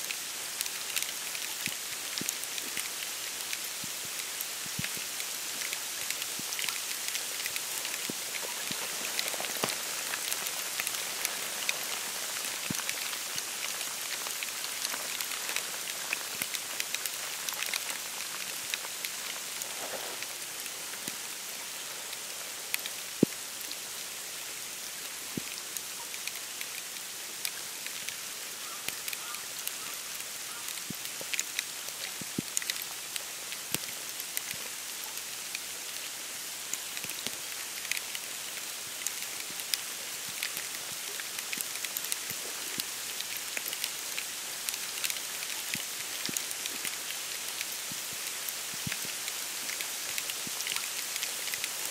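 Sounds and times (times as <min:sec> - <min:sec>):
snowfall pattering on reeds and water: 0:00.0 - 0:51.9.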